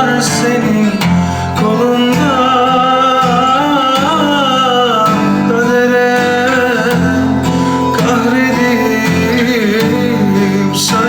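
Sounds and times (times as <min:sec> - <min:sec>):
guitar accompaniment: 0:00.0 - 0:11.0.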